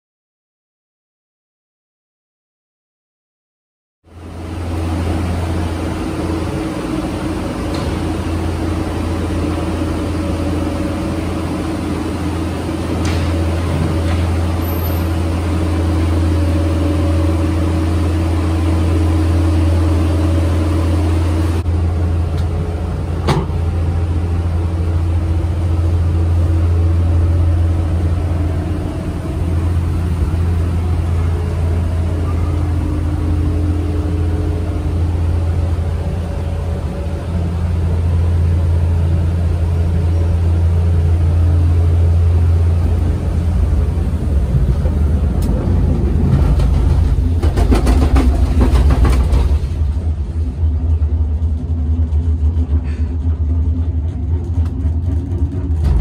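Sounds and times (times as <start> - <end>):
vehicle engine drone: 4.0 - 56.0.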